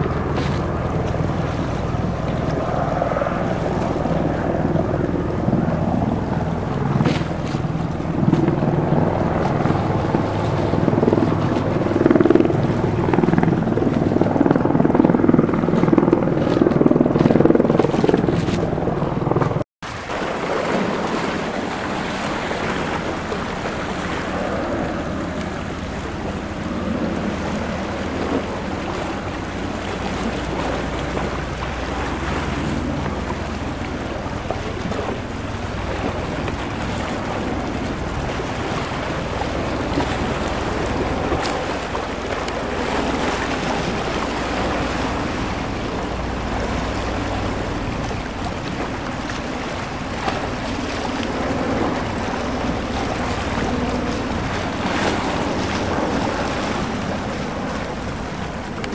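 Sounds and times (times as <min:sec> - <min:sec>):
aircraft rotor and engine drone: 0:00.0 - 0:58.9
wind noise on microphone: 0:00.0 - 0:58.9.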